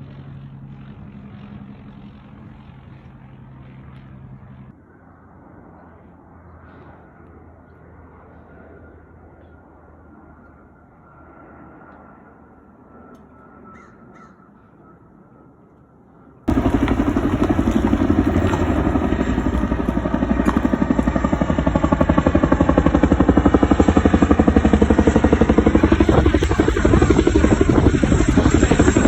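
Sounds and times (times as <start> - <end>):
loud pulsing aircraft noise: 0.0 - 29.0.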